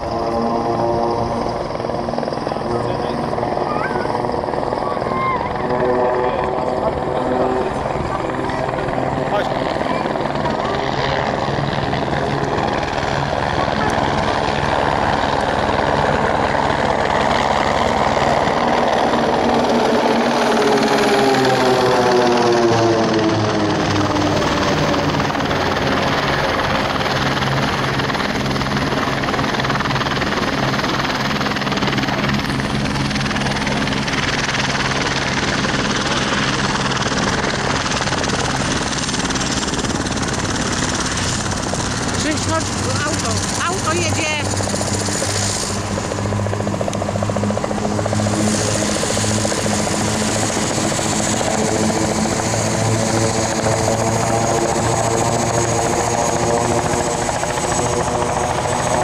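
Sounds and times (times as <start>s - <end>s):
propeller planes flying past: 0.0s - 59.0s.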